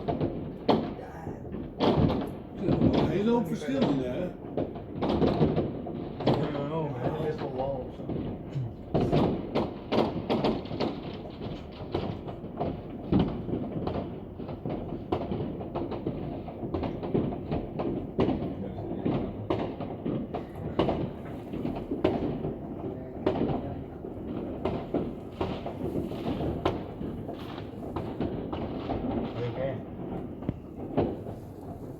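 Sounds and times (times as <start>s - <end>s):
fireworks bangs and thuds: 0.0s - 31.9s.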